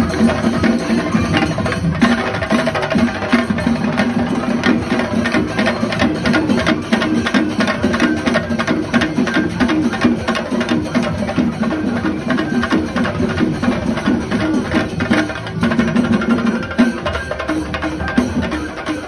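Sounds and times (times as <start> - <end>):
drums beaten with sticks: 0.0 - 19.0.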